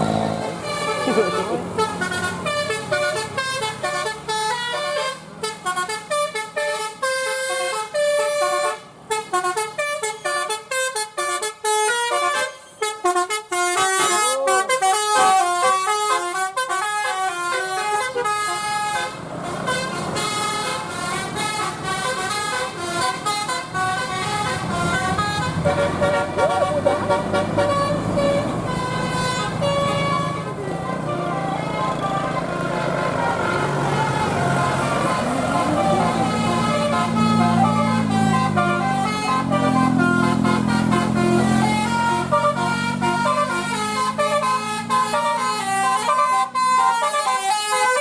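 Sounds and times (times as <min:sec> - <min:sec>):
bus engine noise: 0:00.0 - 0:48.0
musical bus air horn: 0:00.0 - 0:48.0.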